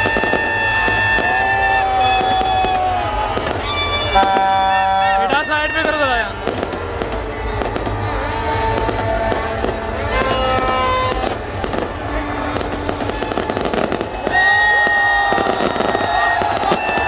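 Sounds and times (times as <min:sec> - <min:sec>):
fireworks cracking and banging: 0:00.0 - 0:17.0
fireworks whistling: 0:00.0 - 0:17.0.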